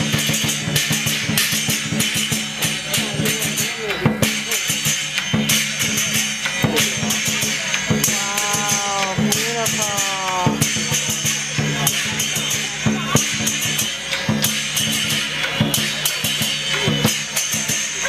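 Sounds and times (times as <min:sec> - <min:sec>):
cymbals clashing: 0:00.0 - 0:18.0
drum beating: 0:00.0 - 0:18.0.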